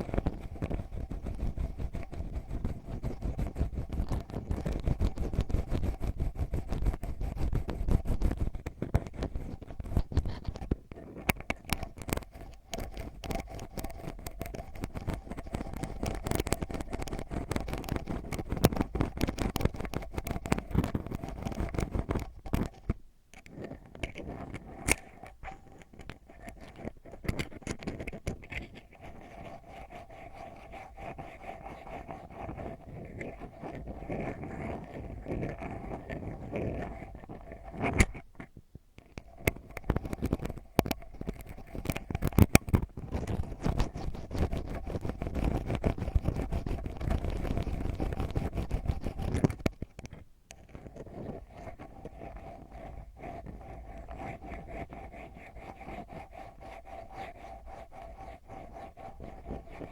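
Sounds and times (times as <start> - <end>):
ear pick scratching and scraping: 0.0 - 59.9.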